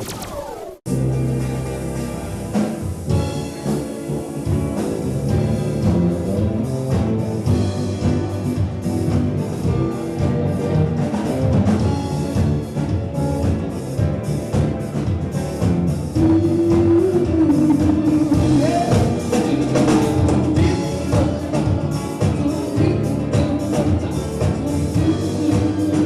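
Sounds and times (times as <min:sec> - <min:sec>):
music with drums and percussion: 0:00.9 - 0:26.0.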